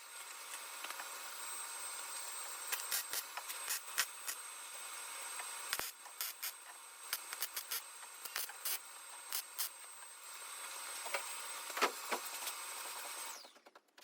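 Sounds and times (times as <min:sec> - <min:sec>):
power tool whining: 0:00.2 - 0:13.6.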